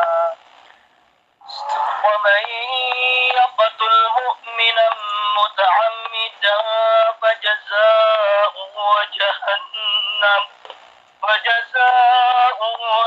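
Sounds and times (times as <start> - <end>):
man chanting melodically: 1.5 - 10.6, 11.2 - 13.0.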